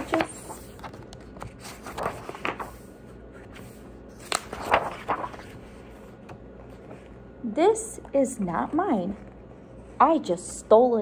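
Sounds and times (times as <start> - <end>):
book pages being turned: 0.0 - 7.4, 8.0 - 10.7.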